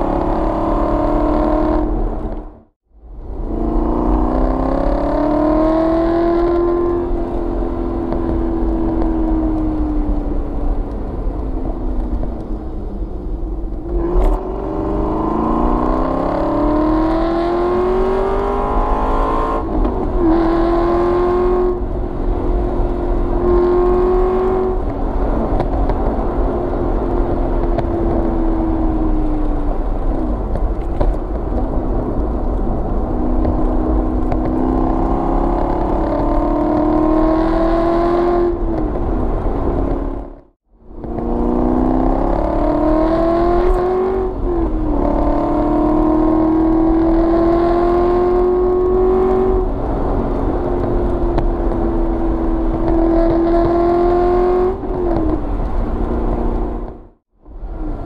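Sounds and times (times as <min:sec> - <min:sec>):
car engine revving: 0:00.0 - 0:10.5, 0:13.8 - 0:58.0.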